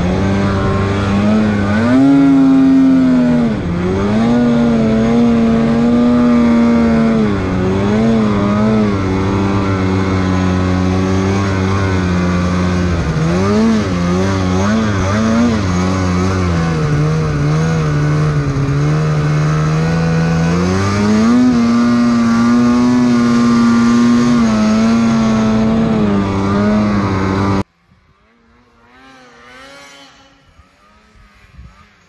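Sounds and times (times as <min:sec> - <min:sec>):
distant snowmobile engine: 0:00.0 - 0:32.0
snowmobile engine revving: 0:00.0 - 0:32.0.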